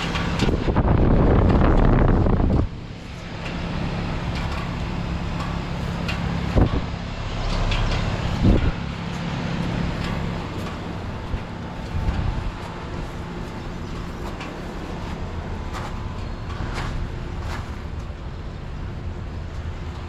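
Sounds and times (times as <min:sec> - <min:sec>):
compressor hum: 0:00.0 - 0:20.0
fan noise: 0:00.0 - 0:20.0.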